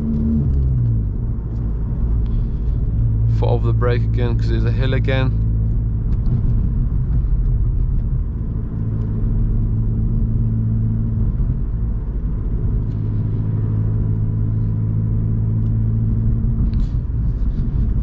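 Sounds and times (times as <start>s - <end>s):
car engine and tyres droning: 0.0s - 18.0s
low hum: 0.0s - 18.0s.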